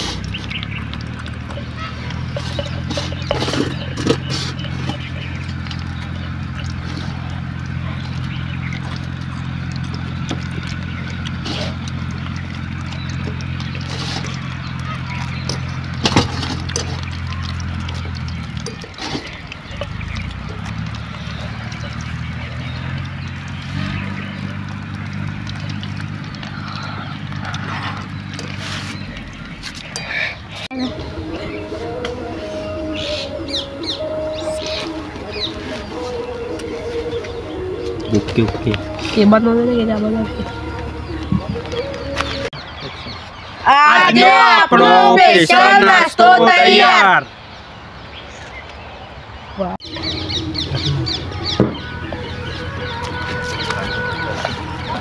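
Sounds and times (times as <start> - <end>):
low motor hum: 0.0 - 30.0, 30.7 - 42.7, 49.8 - 55.0.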